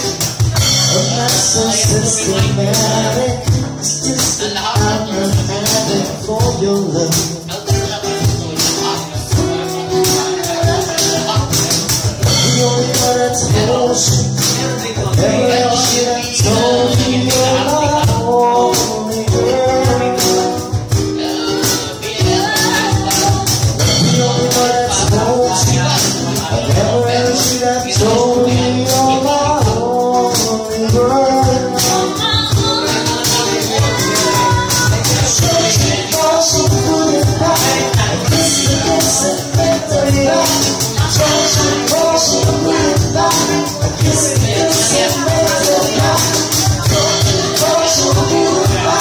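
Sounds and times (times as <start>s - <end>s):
hand percussion beat: 0.0s - 49.0s
shaker rhythm: 0.0s - 49.0s
woman singing: 9.2s - 49.0s.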